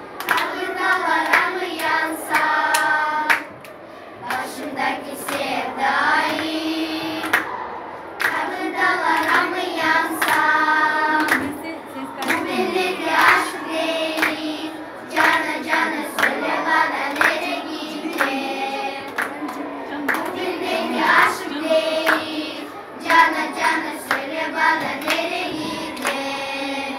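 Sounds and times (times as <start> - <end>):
children singing: 0.0 - 3.6, 4.2 - 7.5, 8.2 - 11.6, 12.2 - 26.9
hands clapping: 0.2 - 5.5, 6.2 - 6.6, 7.2 - 7.5, 8.2 - 10.6, 11.2 - 11.6, 12.2 - 14.4, 15.1 - 22.4, 23.0 - 26.4.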